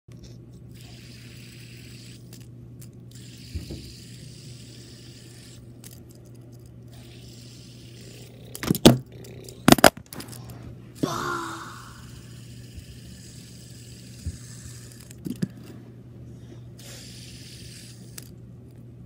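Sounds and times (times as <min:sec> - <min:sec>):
fidget spinner handling noise: 0:00.1 - 0:11.0, 0:11.8 - 0:15.9, 0:16.8 - 0:18.8
low steady hum: 0:00.1 - 0:19.0.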